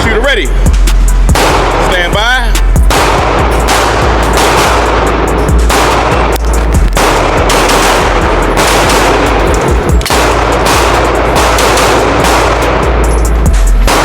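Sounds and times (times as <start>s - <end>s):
rapid handgun shots: 0.0s - 14.0s.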